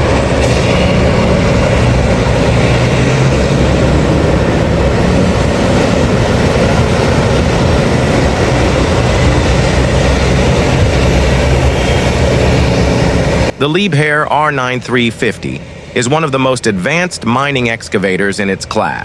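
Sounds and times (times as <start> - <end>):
diesel engine drone: 0.0 - 19.0
rushing noise: 0.0 - 19.0.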